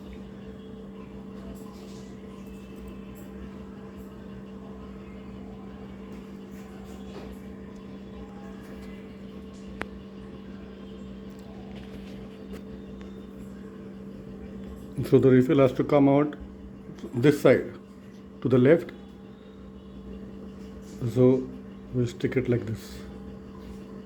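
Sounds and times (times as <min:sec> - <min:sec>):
appliance humming: 0:00.0 - 0:24.0.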